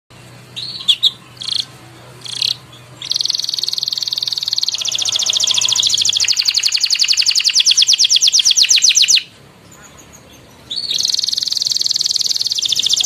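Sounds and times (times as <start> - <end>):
canary singing: 0.1 - 13.0.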